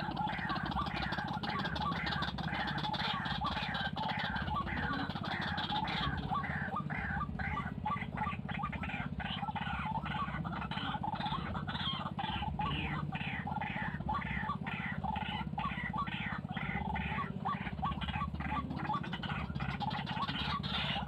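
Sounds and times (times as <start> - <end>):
steady low hum: 0.0 - 21.0
waterhen harsh croaking call: 0.0 - 21.0.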